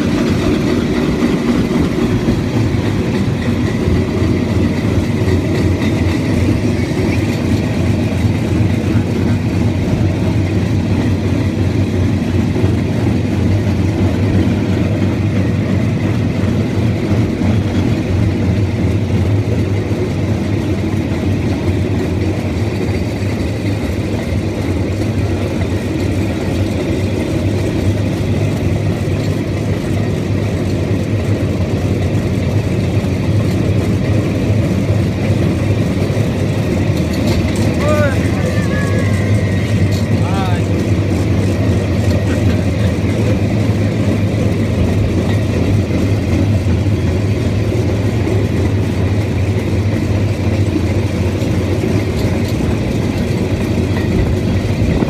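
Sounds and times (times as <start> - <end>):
steel wheels rolling on rails: 0.0 - 55.0.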